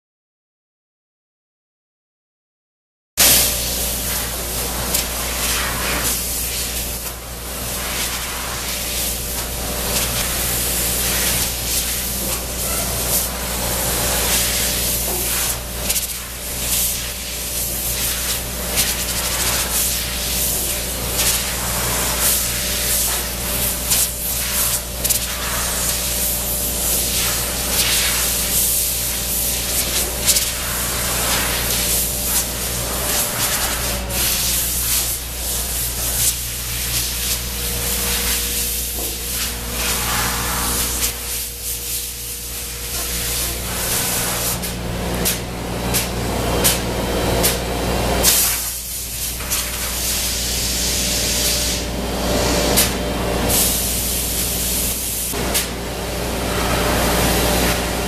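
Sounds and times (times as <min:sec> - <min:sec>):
air blow gun hissing: 0:03.2 - 0:46.8, 0:48.2 - 0:51.9
low hum of shop machinery: 0:03.2 - 0:58.0.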